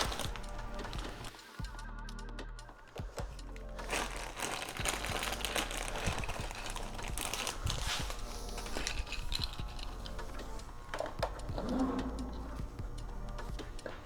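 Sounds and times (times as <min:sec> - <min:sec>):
plastic chain links clicking and rattling: 0:00.0 - 0:01.3, 0:03.6 - 0:14.0.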